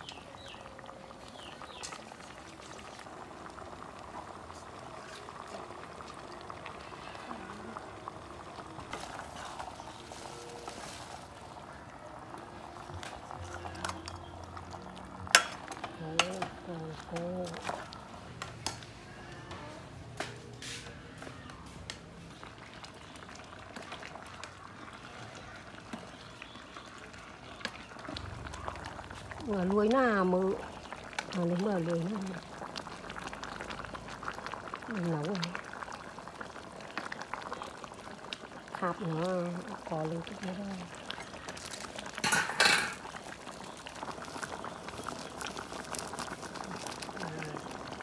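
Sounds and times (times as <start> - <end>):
soup bubbling in a pot: 0.0 - 48.0.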